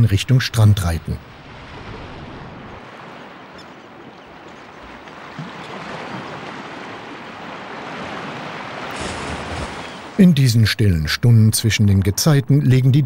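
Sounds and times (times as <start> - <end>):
sea waves lapping: 0.6 - 12.4.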